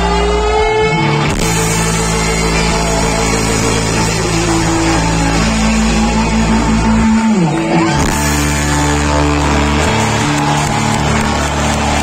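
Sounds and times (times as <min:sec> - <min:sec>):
loud electric rock band: 0:00.0 - 0:12.0
falling guitar slide: 0:00.9 - 0:12.0.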